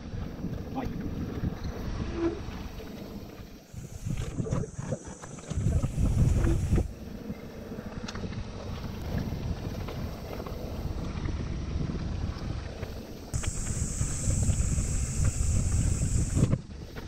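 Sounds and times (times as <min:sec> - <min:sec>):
tyre and trail rumble: 0:00.0 - 0:17.0
wind buffeting microphone: 0:00.0 - 0:17.0.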